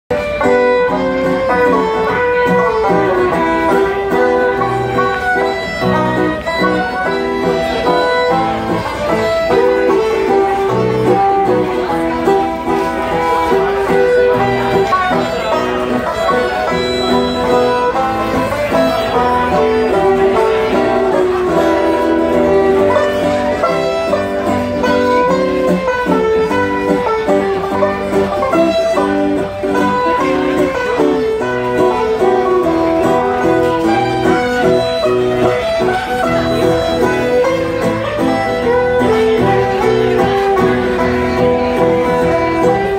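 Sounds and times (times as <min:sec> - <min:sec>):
fiddle banjo and guitar folk tune: 0:00.1 - 0:42.9.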